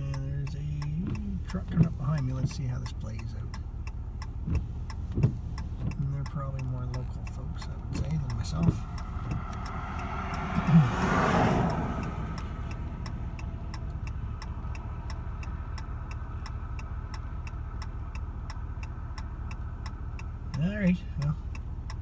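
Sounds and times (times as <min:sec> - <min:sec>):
engine idling: 0:00.0 - 0:22.0
vehicle passing: 0:03.3 - 0:22.0.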